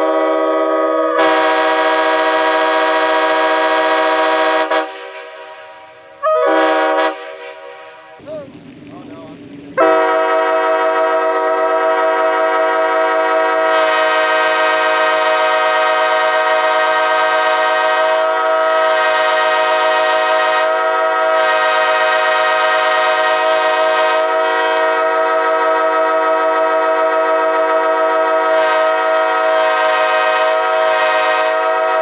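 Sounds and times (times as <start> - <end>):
locomotive air horn: 0.0 - 8.2, 9.8 - 32.0.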